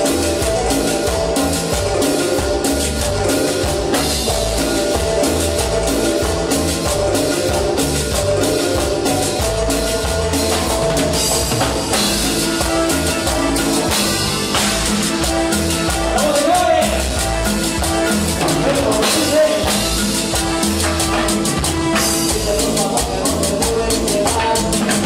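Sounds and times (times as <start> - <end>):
drum kit and congas: 0.0 - 25.0
latin dance band playing: 0.0 - 25.0.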